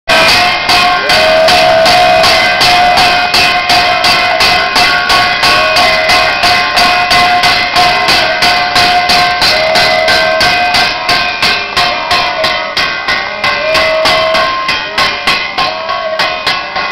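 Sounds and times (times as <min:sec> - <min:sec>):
temple bells ringing: 0:00.1 - 0:16.9.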